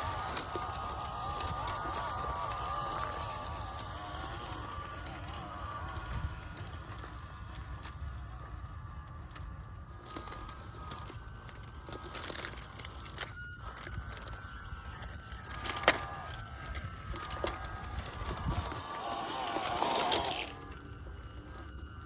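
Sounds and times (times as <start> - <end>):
crackles and clicks from tyres: 0.0 - 22.0
electric motor whining: 0.0 - 22.0.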